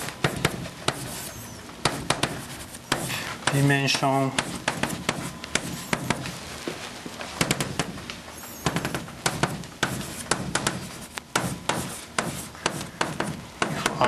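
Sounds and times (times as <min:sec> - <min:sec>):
chalk tapping and scraping on blackboard: 0:00.0 - 0:06.4, 0:07.4 - 0:14.0.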